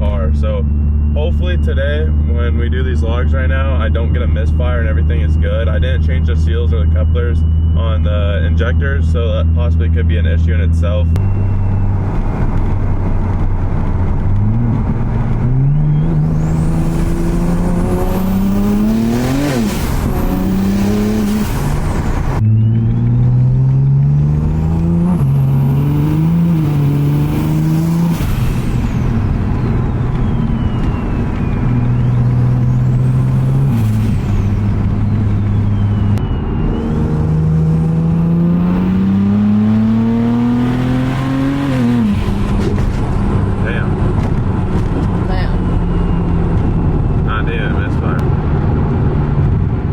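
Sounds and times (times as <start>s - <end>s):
car engine accelerating hard: 0.0s - 49.9s
turbo whine: 0.0s - 49.9s.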